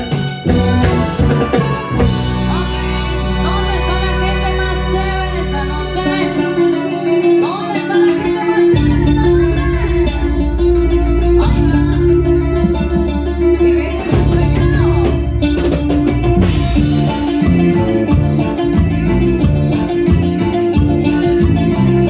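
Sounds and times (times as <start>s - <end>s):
instrumental band music: 0.0s - 22.0s.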